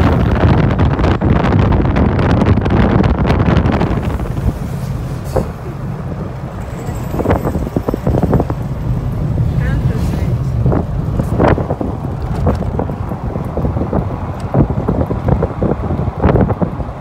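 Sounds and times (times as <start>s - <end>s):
low rumble: 0.0s - 17.0s
wind buffeting microphone: 0.0s - 17.0s.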